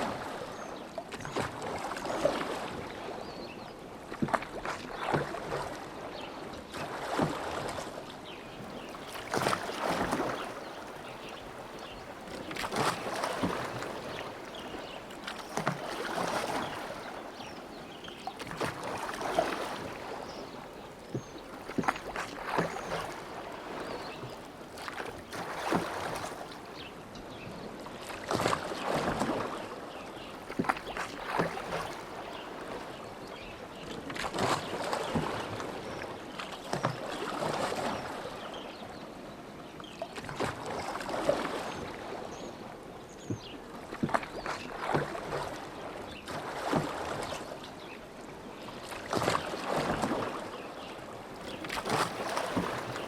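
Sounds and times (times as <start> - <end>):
oars splashing in water: 0.0 - 38.8, 39.8 - 53.0.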